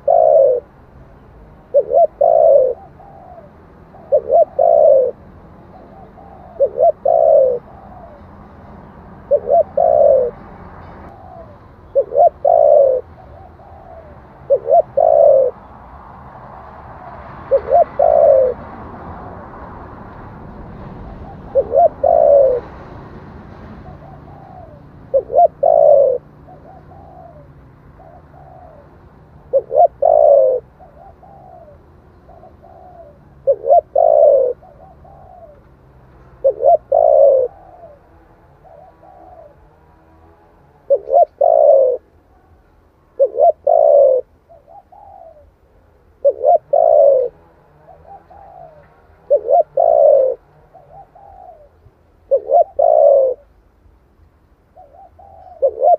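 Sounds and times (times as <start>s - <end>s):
dove cooing: 0.0s - 0.8s, 1.4s - 15.8s, 16.5s - 20.0s, 20.8s - 23.0s, 23.8s - 53.5s, 54.7s - 55.9s.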